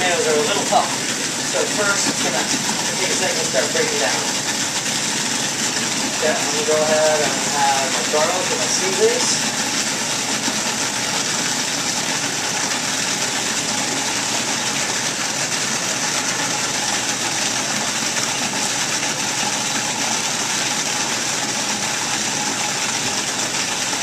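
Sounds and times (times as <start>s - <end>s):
food processor motor whirring: 0.0s - 24.0s.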